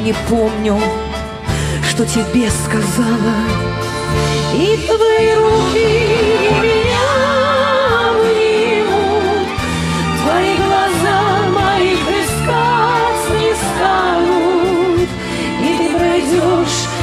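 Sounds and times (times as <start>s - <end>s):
instrumental backing: 0.0s - 17.0s
woman singing pop ballad: 0.0s - 17.0s.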